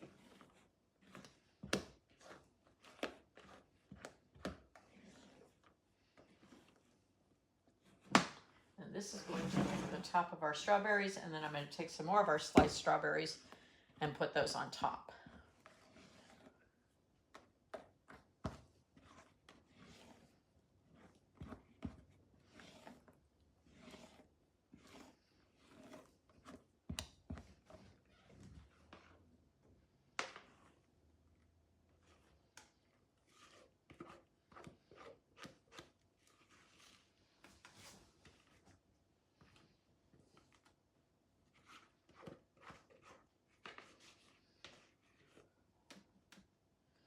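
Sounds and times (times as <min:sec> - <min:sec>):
soft brushing and scraping: 0:00.0 - 0:40.8, 0:41.4 - 0:46.1.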